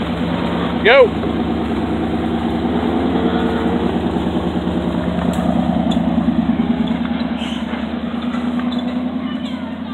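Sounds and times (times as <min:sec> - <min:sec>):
truck engine at low revs: 0:00.0 - 0:09.9.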